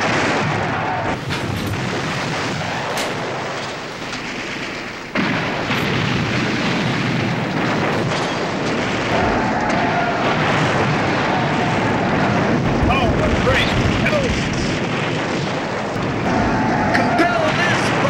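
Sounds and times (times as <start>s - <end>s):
explosions: 0.0s - 18.0s
gunfire: 0.0s - 18.0s
sharp crack: 0.0s - 18.0s.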